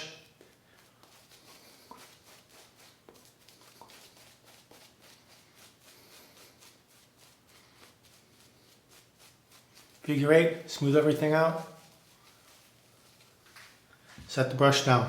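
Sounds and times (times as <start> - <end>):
shaving brush swishing: 0.0 - 13.9.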